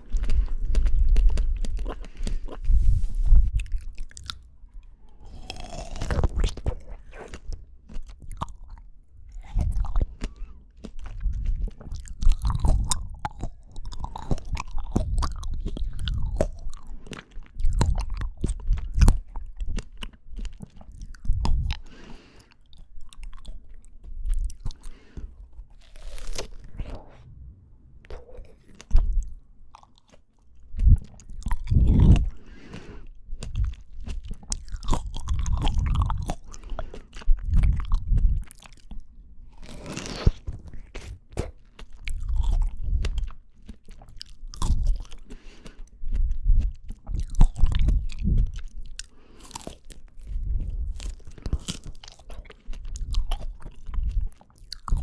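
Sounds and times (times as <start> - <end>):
chewing and biting fruit: 0.0 - 27.4, 28.0 - 55.0.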